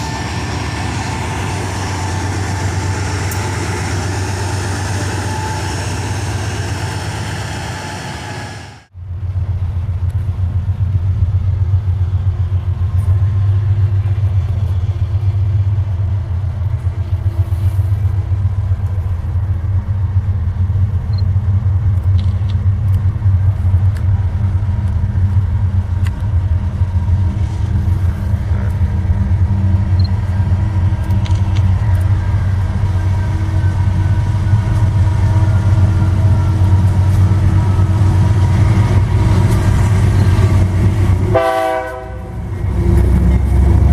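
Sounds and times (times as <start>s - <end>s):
diesel locomotive engine droning: 0.0s - 43.9s.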